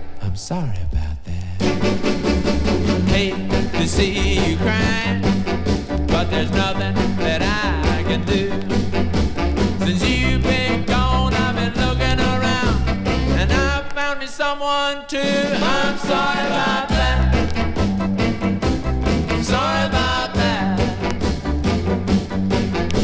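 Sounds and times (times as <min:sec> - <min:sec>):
rock and roll band music: 0:01.6 - 0:23.0.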